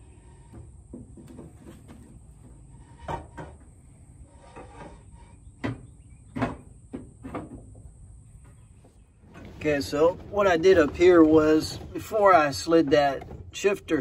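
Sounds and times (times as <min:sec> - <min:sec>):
knocks and clunks of parts: 0:00.4 - 0:03.7, 0:04.5 - 0:14.0.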